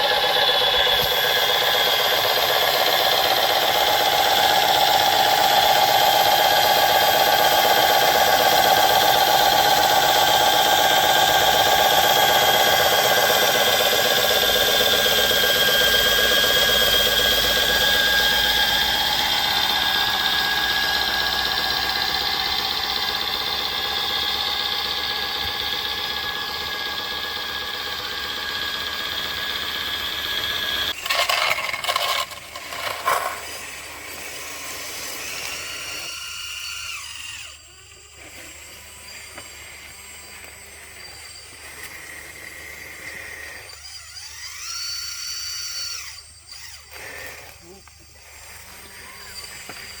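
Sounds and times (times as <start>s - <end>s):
electric motors whining: 0.0s - 50.0s.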